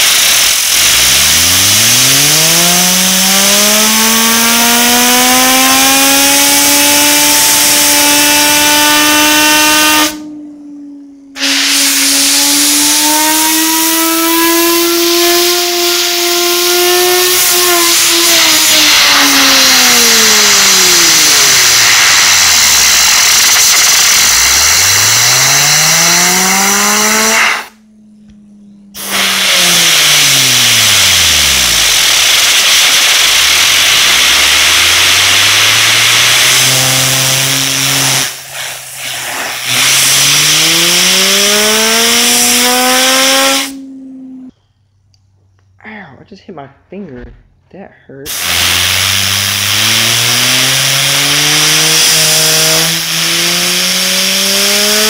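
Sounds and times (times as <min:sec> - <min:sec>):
air blow gun hissing: 0:00.0 - 0:10.2, 0:11.4 - 0:27.8, 0:28.9 - 0:43.8, 0:48.3 - 0:55.0
fidget spinner whine: 0:00.0 - 0:44.7, 0:48.4 - 0:55.0.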